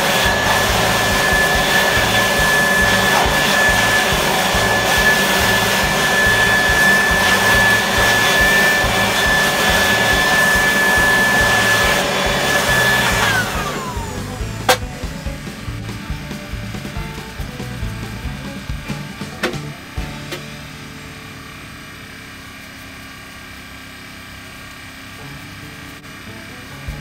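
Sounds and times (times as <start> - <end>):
electric blower whining: 0.0 - 27.0.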